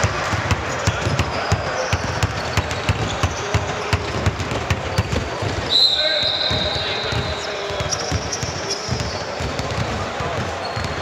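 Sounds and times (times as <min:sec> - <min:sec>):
basketballs bouncing on hard court: 0:00.0 - 0:11.0.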